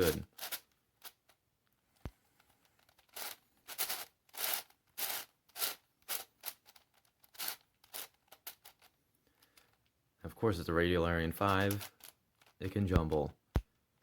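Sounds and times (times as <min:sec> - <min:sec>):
plastic puzzle clicking and scraping: 0:00.0 - 0:10.0, 0:10.7 - 0:14.0.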